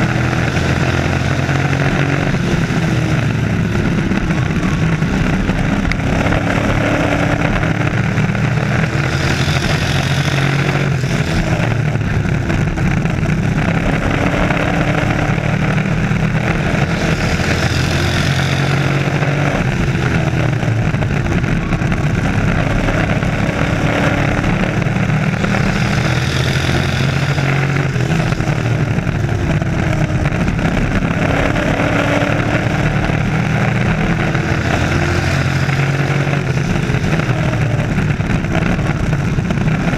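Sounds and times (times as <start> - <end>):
race truck engines droning: 0.0 - 39.9.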